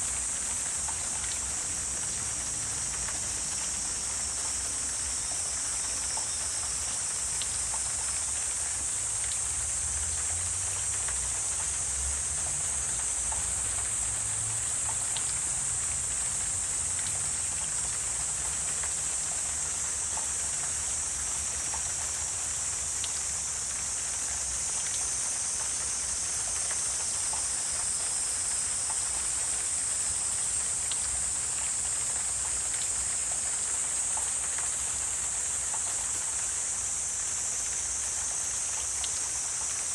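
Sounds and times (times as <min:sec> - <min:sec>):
high-pitched insect chorus: 0:00.0 - 0:39.9
faint ticks: 0:02.9 - 0:15.4, 0:16.2 - 0:39.9.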